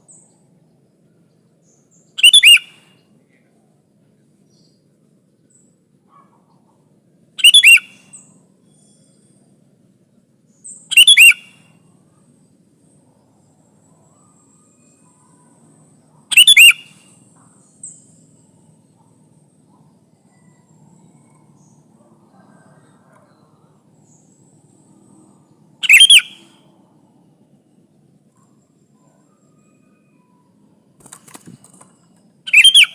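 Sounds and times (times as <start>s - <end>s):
bird chirping: 0.0s - 3.2s, 4.2s - 26.7s, 27.5s - 32.9s.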